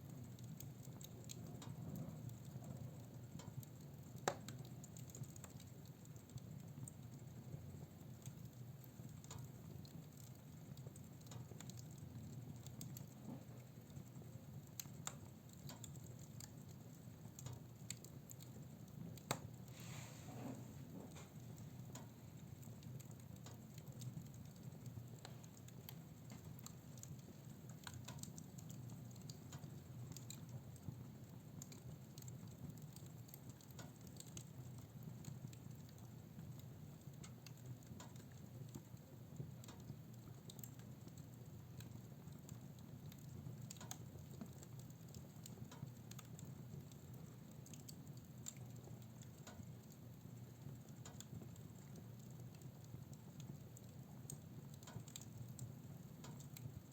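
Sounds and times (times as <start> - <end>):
fire crackles and pops: 0.0 - 56.9
fire rumbling: 0.1 - 56.9.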